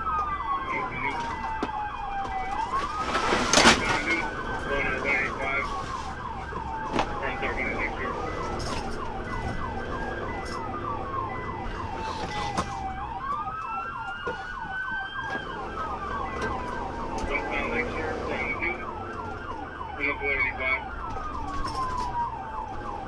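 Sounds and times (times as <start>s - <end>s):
fast sweeping siren: 0.0s - 23.0s
low vehicle rumble: 0.0s - 23.0s
police siren slow wail: 0.0s - 23.0s.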